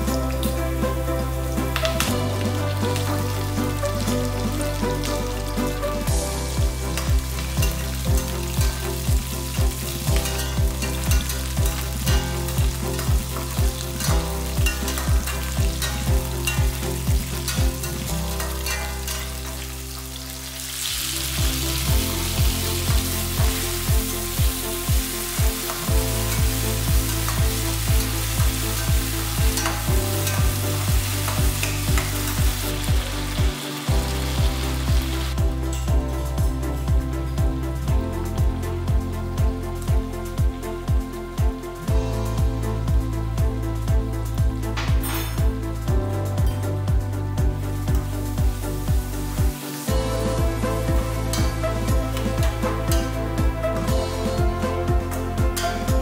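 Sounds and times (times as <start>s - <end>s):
aromatics sizzling in hot oil: 0.0s - 56.0s
background music with steady beat: 0.0s - 56.0s.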